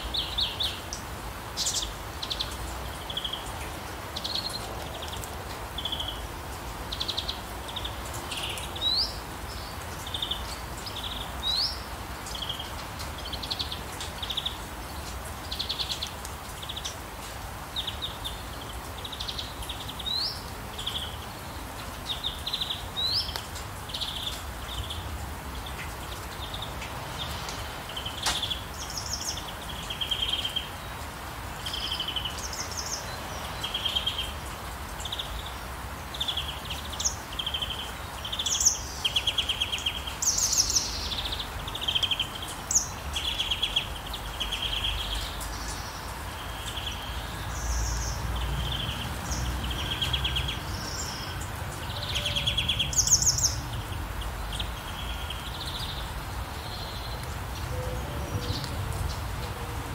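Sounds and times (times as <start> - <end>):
rain hiss: 0.0 - 59.9
songbirds chirping: 0.0 - 59.9.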